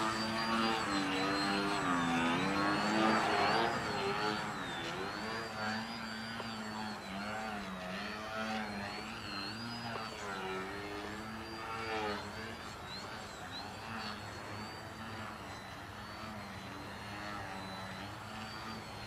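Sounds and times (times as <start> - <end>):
model plane motor buzzing whine: 0.0 - 19.0.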